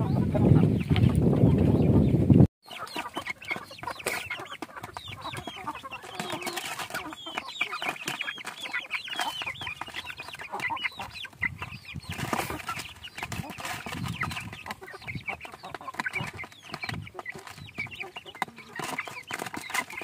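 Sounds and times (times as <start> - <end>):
chicks peeping and clucking: 0.0 - 20.0
beaks pecking feed from plastic tray: 2.6 - 20.0.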